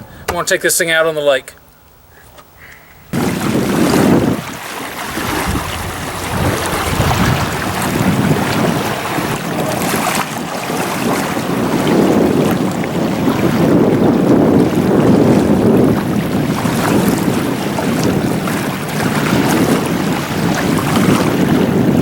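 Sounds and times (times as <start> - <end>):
wind buffeting microphone: 3.0 - 22.0
rushing water: 3.2 - 22.0.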